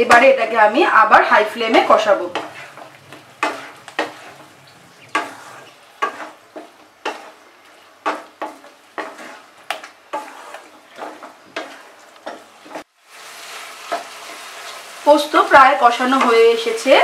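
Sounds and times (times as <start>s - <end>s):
low frying sizzle: 0.0s - 17.0s
spatula scraping and stirring: 0.7s - 17.0s.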